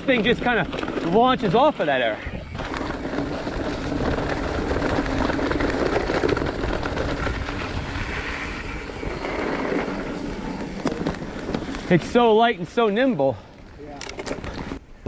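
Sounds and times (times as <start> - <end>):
bike knocking and rattling: 0.0 - 13.1
bike tyres rumbling over dirt and leaves: 0.0 - 13.5.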